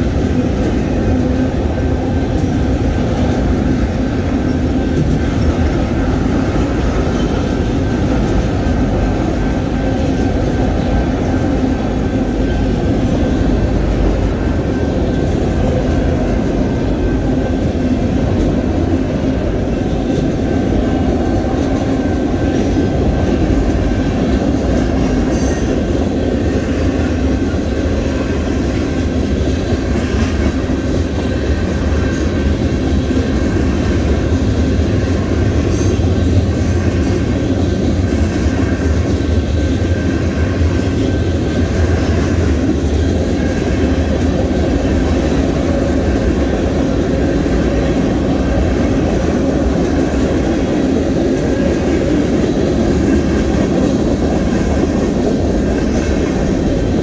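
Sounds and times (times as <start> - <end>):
freight train cars rumbling past: 0.0 - 57.0.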